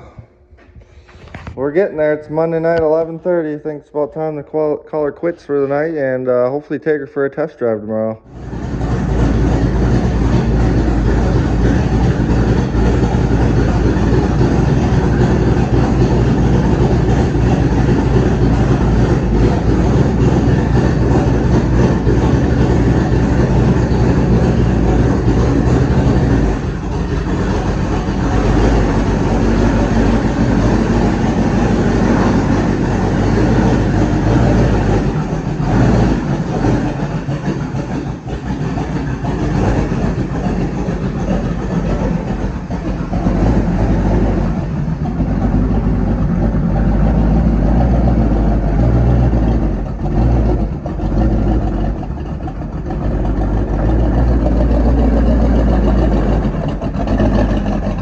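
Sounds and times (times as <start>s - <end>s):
loud race car engine: 8.2s - 58.0s.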